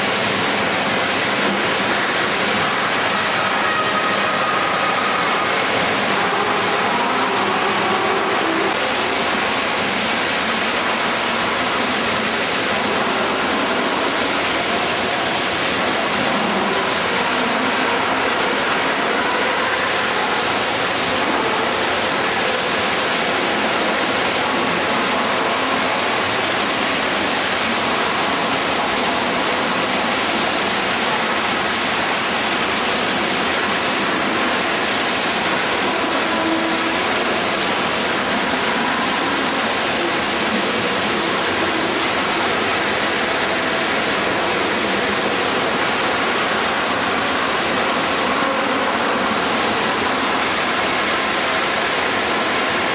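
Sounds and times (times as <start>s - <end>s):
machinery and water rushing: 0.0s - 52.9s.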